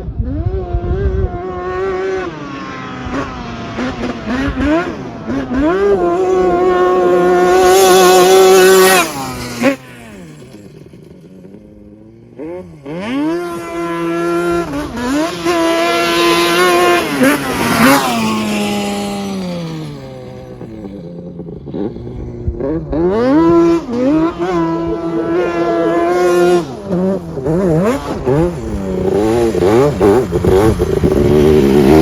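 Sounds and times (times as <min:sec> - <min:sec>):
two-stroke engine revving: 0:00.0 - 0:32.0.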